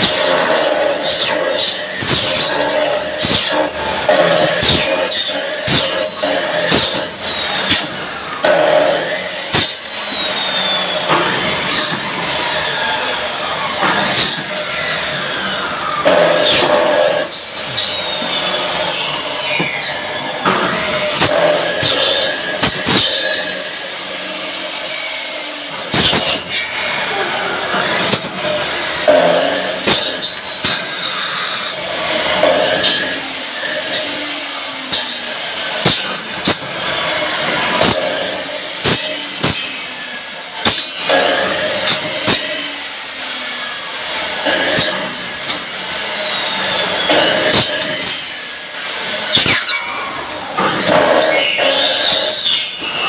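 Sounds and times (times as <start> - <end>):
electric bone saw whining: 0.0 - 53.0.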